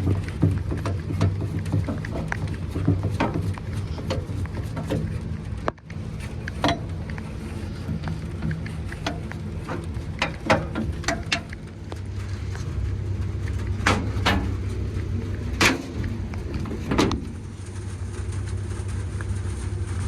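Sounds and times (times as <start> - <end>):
sharp clicks and knocks: 0.0 - 18.6
fan unit humming: 0.0 - 20.0.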